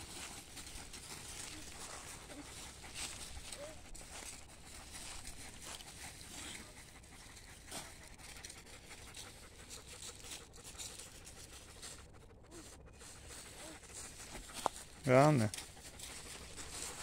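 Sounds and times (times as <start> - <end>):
footsteps rustling dry leaves: 0.0 - 12.0, 12.6 - 17.0.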